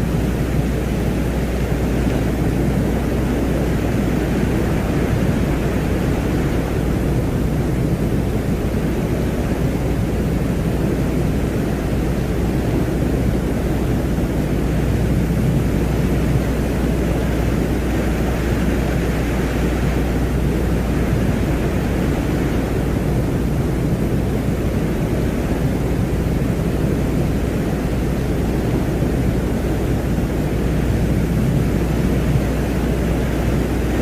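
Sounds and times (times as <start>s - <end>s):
dense low-pitched noise: 0.0s - 34.0s.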